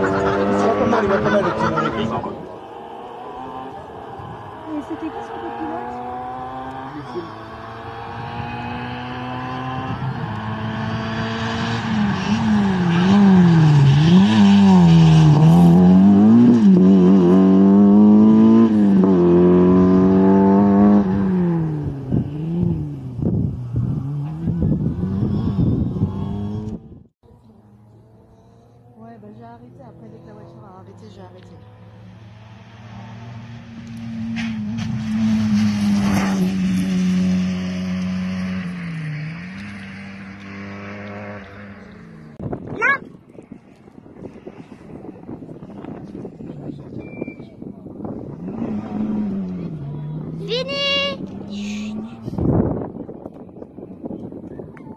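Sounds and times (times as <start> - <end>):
rally car engine revving: 0.0 - 27.0, 27.7 - 43.0, 47.9 - 53.5.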